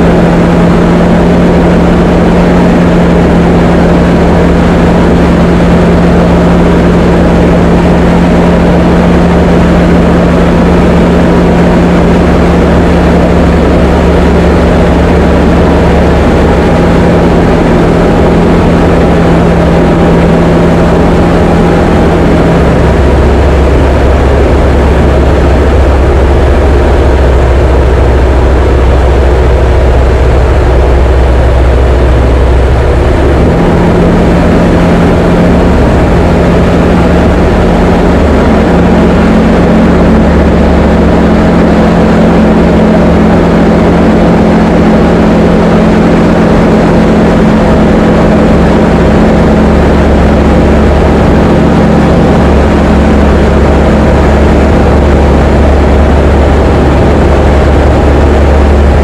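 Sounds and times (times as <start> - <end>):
light aircraft engine running: 0.0 - 59.0.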